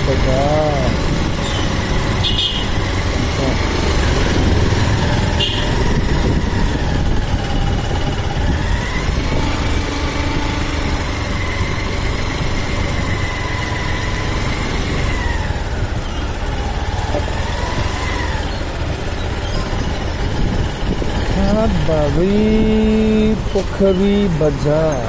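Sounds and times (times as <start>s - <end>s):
motorcycle engine whine: 0.0s - 25.0s
wind and road noise: 0.0s - 25.0s.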